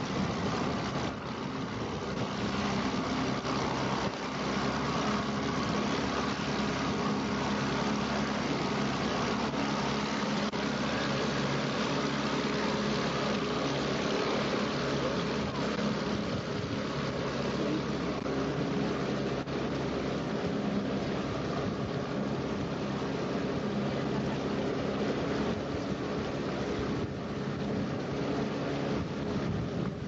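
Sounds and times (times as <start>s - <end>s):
boat engine running: 0.0s - 30.0s
rushing water and air: 0.0s - 30.0s.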